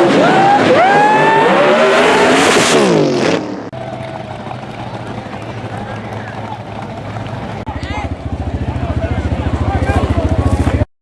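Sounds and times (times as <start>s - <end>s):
drag race cars at full throttle: 0.0s - 10.9s.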